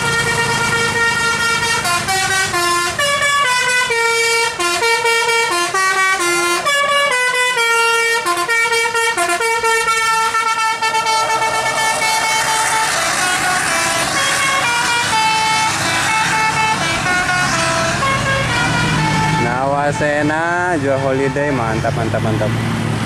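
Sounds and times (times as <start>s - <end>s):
multi-tone air horn melody: 0.0s - 21.8s
bus engine rumbling: 0.0s - 23.0s.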